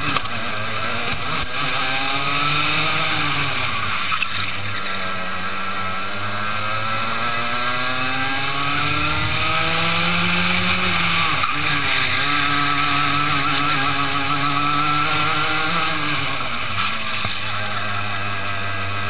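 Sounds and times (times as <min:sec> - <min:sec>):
kart engine at full throttle: 0:00.0 - 0:19.0.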